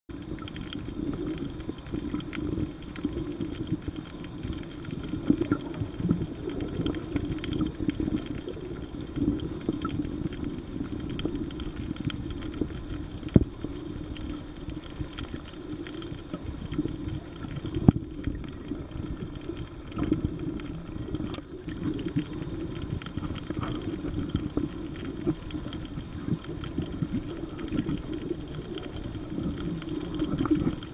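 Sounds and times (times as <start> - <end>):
muffled underwater wash: 0.1 - 30.9.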